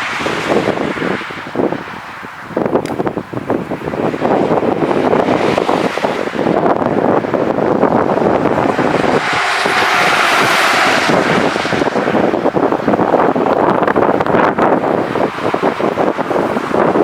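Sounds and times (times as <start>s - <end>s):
jet airliner passing: 0.0s - 17.0s
wind buffeting microphone: 0.0s - 17.0s.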